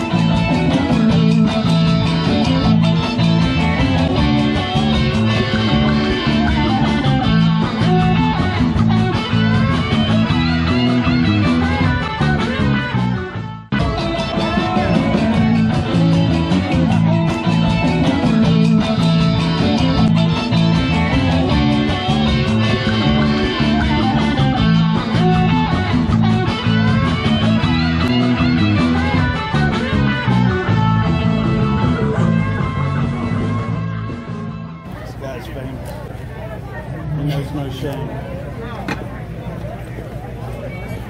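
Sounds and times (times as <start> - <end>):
bass: 0.0 - 41.0
guitar music: 0.0 - 41.0.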